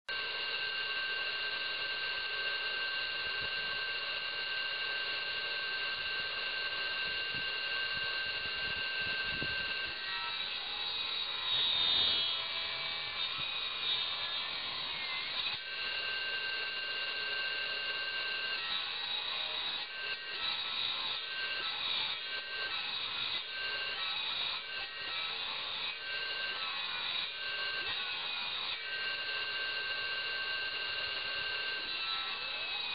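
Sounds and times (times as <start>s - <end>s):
circular saw whining: 0.1s - 32.9s.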